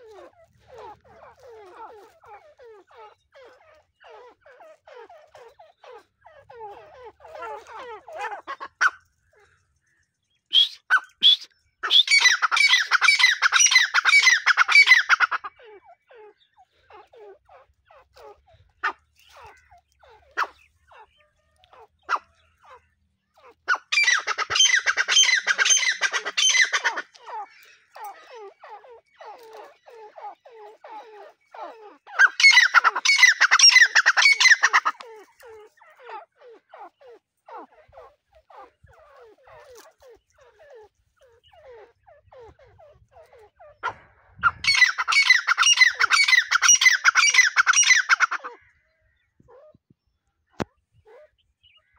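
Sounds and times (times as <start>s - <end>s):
francolins calling: 0.0s - 51.9s.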